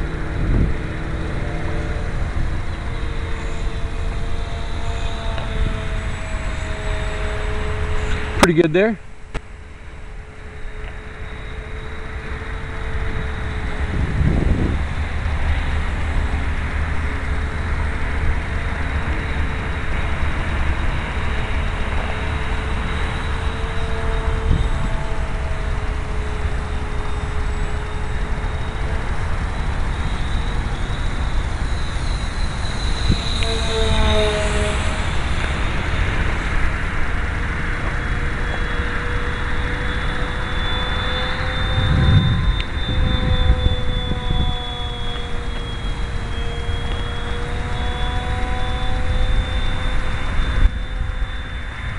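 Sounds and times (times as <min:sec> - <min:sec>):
distant model plane motor hum: 0:00.0 - 0:51.9
wind buffeting microphone: 0:00.0 - 0:51.9.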